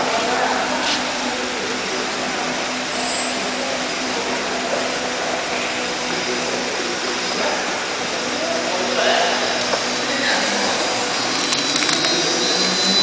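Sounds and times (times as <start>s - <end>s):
router spindle milling metal: 1.4s - 13.0s.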